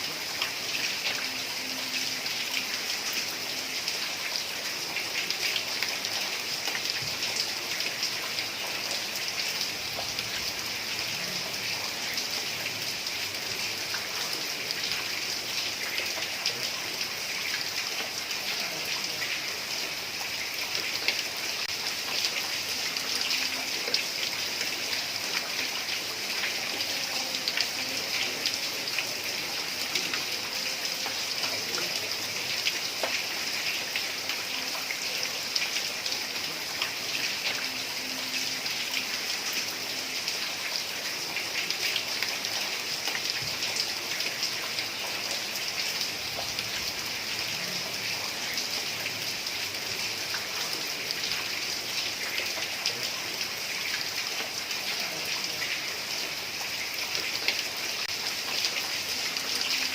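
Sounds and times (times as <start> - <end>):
heavy rain on a tiled roof: 0.0 - 59.9.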